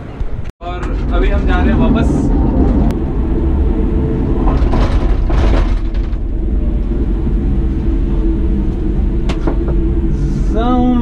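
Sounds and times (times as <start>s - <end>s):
gondola cabin rumbling on cable: 0.6s - 11.0s.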